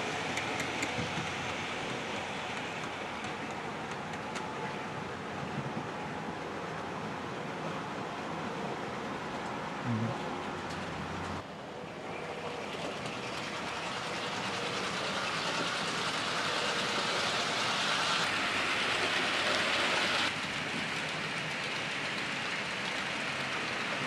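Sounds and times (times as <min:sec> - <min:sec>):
model train rolling on track: 0:00.0 - 0:08.2, 0:11.9 - 0:24.0.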